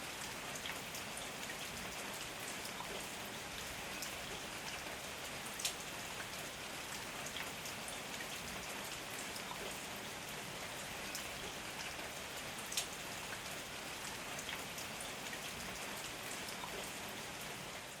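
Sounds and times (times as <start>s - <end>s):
raindrops ticking close by: 0.1s - 18.0s.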